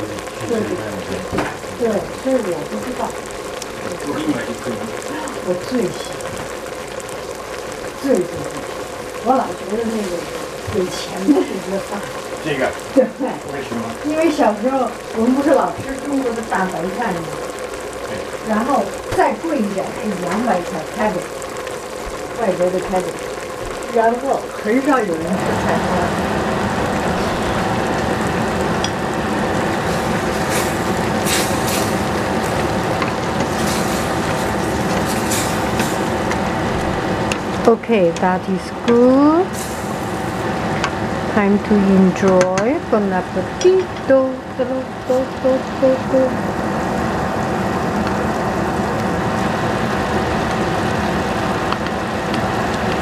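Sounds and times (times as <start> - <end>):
constant whine: 0.0 - 53.0
food sizzling in a pot: 0.0 - 53.0
low steady hum: 0.0 - 53.0.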